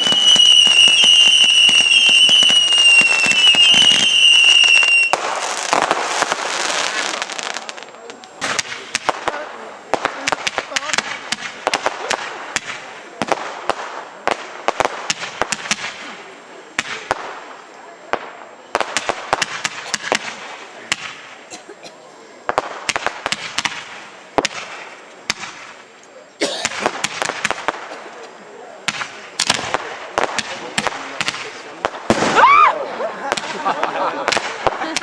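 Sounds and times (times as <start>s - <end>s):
crackling hiss of burning stars: 0.0s - 35.0s
fireworks bangs and crackles: 0.0s - 35.0s.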